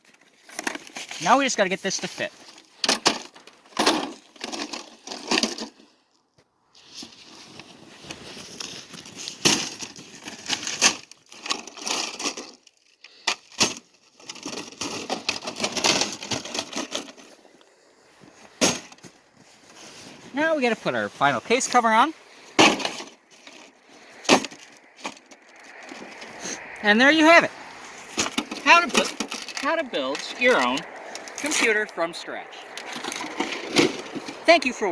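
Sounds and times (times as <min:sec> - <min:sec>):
knocks and scrapes: 0:00.0 - 0:06.0, 0:06.8 - 0:31.9, 0:32.6 - 0:34.6
rustling and crackling: 0:00.0 - 0:34.9.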